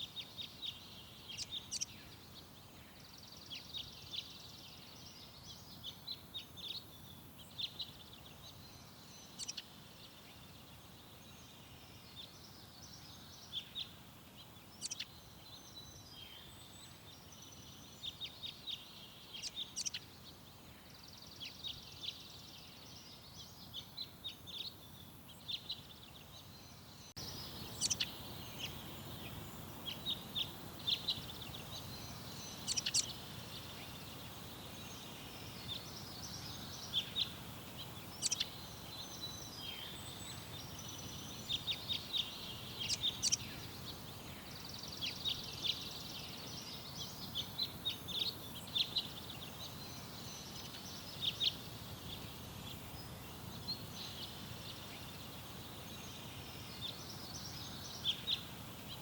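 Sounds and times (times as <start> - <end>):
small birds chirping: 0.0 - 59.0
steady background hiss: 0.0 - 59.0.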